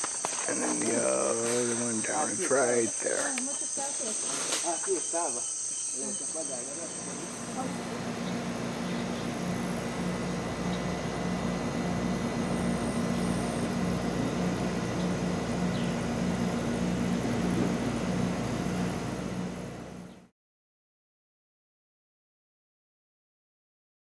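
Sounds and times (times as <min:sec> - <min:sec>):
motor running with pulsing drone: 0:00.1 - 0:04.3, 0:05.0 - 0:20.3.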